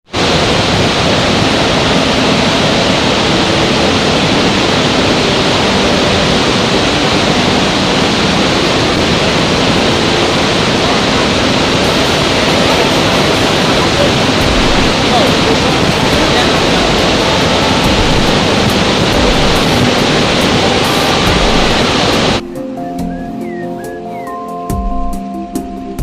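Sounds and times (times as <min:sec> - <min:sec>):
waterfall roaring: 0:00.0 - 0:22.5.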